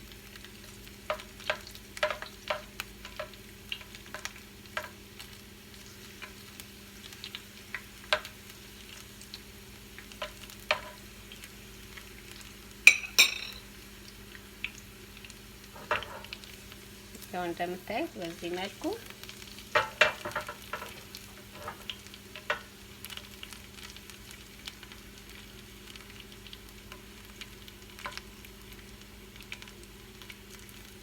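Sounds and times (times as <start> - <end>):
oil sizzling in a pot: 0.0 - 31.0.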